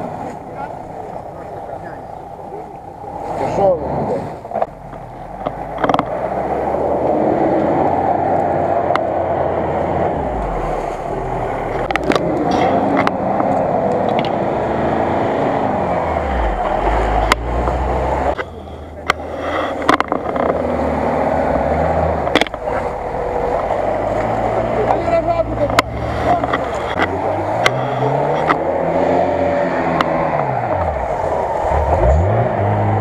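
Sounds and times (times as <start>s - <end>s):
off-road vehicle engines at low revs: 0.0s - 33.0s.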